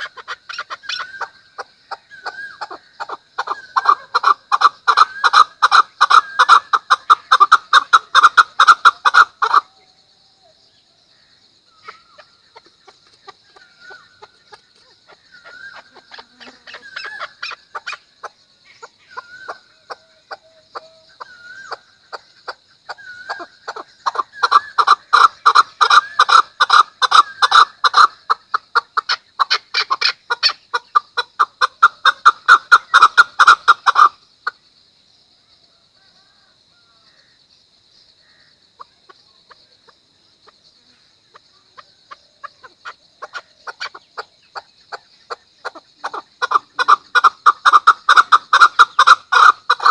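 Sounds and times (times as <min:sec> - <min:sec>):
partridge clucking calls: 0:00.0 - 0:09.8, 0:11.8 - 0:34.6, 0:41.3 - 0:49.9.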